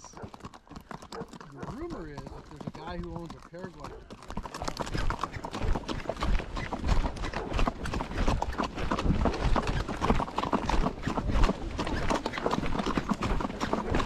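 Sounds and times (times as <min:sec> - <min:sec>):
horse hooves on dirt road: 0:00.0 - 0:14.0.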